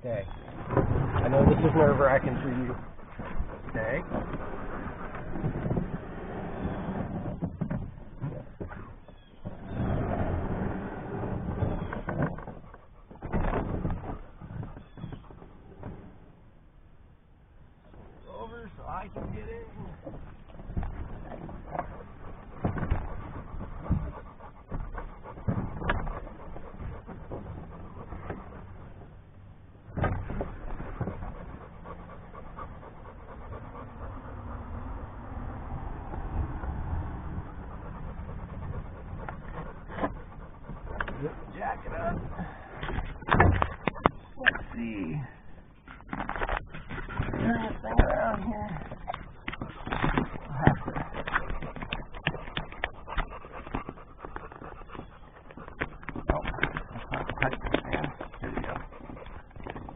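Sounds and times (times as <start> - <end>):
dog panting: 0.3 - 15.6, 18.4 - 59.9.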